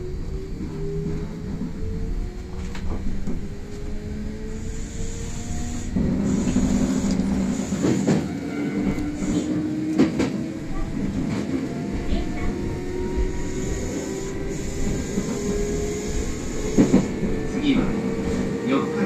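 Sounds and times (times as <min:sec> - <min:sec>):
train traction motors whining: 0:00.0 - 0:19.0
wheels rumbling on rail: 0:00.0 - 0:19.0.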